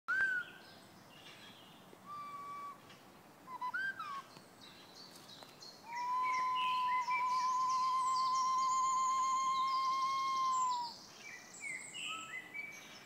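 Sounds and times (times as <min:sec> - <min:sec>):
birds whistling calls: 0:00.1 - 0:13.0.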